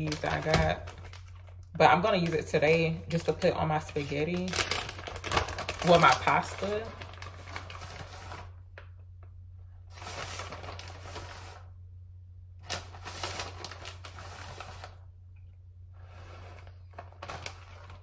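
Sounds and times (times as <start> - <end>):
plastic bag crinkling: 0.0 - 9.2, 9.9 - 11.7, 12.6 - 15.1, 16.0 - 18.0.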